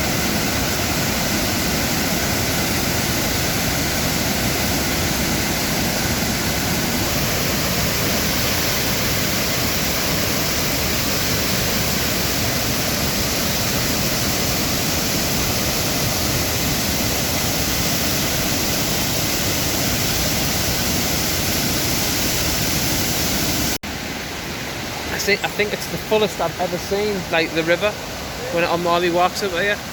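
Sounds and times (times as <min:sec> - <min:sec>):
fast river rushing: 0:00.0 - 0:29.9.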